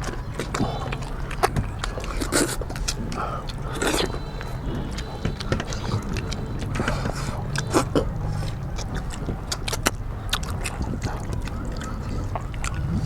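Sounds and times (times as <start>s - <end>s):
chewing and handling food: 0.0s - 13.0s
steady low hum: 0.0s - 13.0s.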